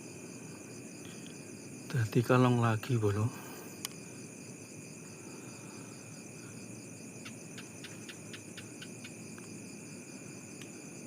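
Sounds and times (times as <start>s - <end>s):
crickets and insects trilling: 0.0s - 11.0s.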